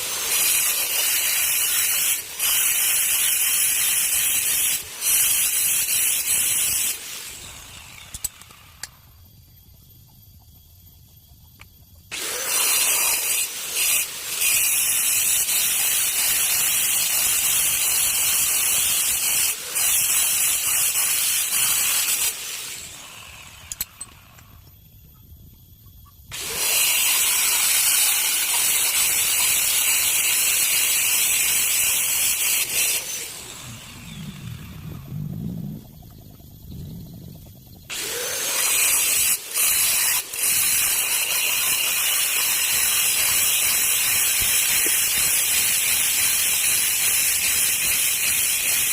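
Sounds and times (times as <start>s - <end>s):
power tool high-pitched gritty noise: 0.0s - 8.9s, 12.1s - 24.5s, 26.3s - 35.0s, 37.9s - 48.9s.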